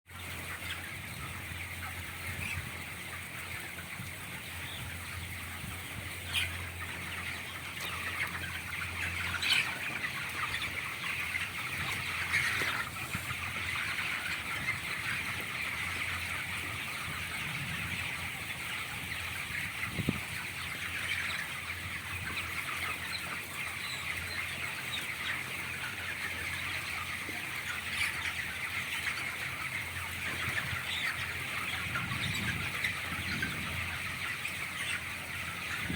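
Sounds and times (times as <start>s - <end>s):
chickens cheeping and clucking: 0.1s - 35.9s.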